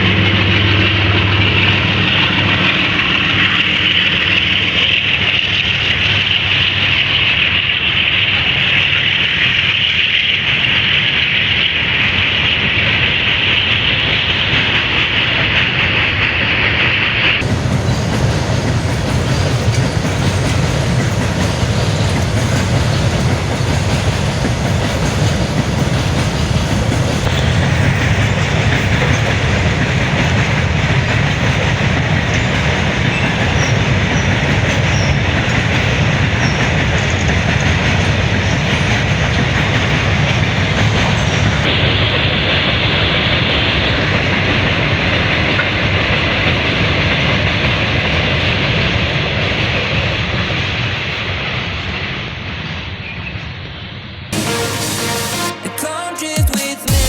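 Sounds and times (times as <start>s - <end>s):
train wheels on rails: 0.0s - 54.6s.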